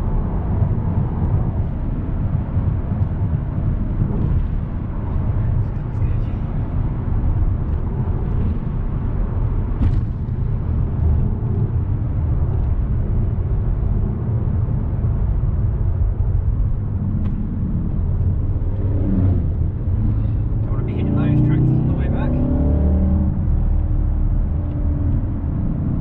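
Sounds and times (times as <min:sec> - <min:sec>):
car engine running while driving: 0:00.0 - 0:26.0
road rumble: 0:00.0 - 0:26.0.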